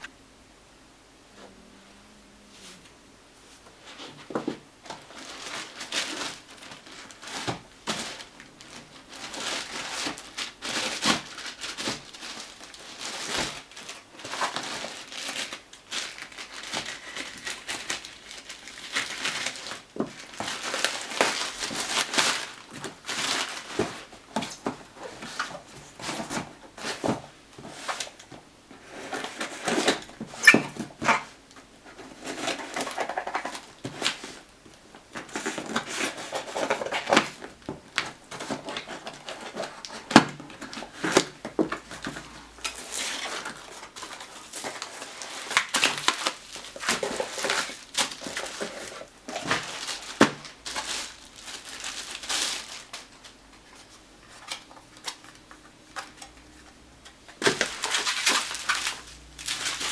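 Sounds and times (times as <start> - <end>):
packaging rustling and scraping: 2.5 - 59.9.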